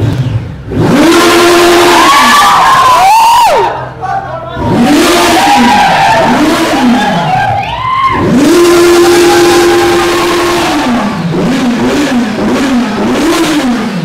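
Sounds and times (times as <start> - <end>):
motorcycle engine revving: 0.0 - 2.7, 4.6 - 7.5, 8.1 - 14.0.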